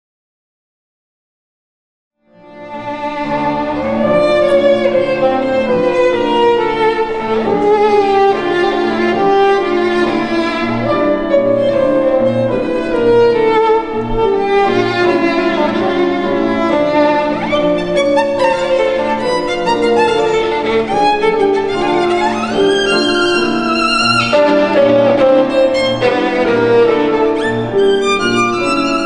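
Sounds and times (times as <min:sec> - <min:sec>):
piano accompaniment: 0:02.3 - 0:29.0
violin melody: 0:02.3 - 0:29.0.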